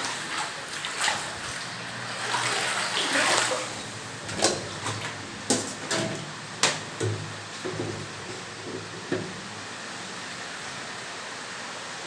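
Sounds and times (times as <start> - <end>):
running water: 0.0 - 11.1.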